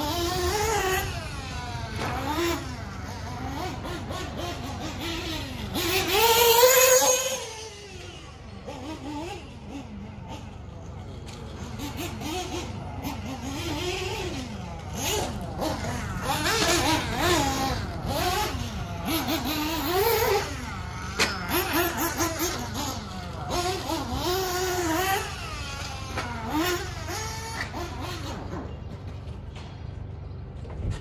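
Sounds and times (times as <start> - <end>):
small high-revving engine: 0.0 - 31.0.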